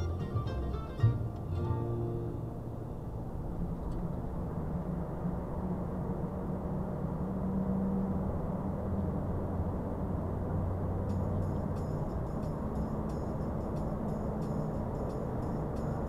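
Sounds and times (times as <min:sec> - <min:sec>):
truck diesel engine under load: 0:00.0 - 0:16.0
tyre and road noise: 0:00.0 - 0:16.0.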